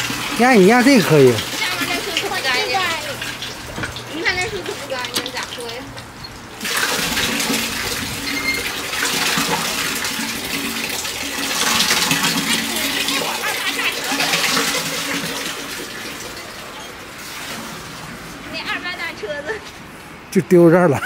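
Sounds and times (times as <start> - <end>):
water gushing from pump: 0.0 - 19.0.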